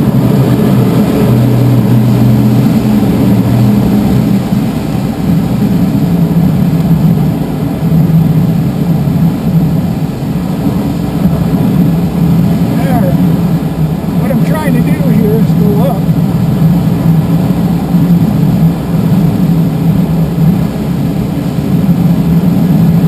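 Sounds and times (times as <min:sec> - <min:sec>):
propeller engine drone: 0:00.0 - 0:23.0
rushing air: 0:00.0 - 0:23.0.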